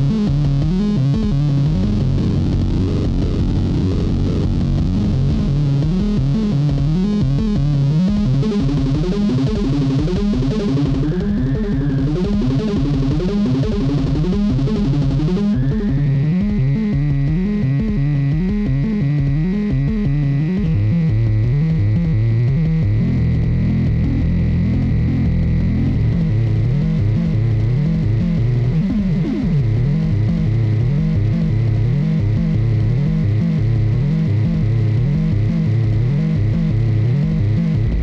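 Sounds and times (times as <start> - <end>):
drum machine: 0.0 - 38.0
synthesizer bass line: 0.0 - 38.0.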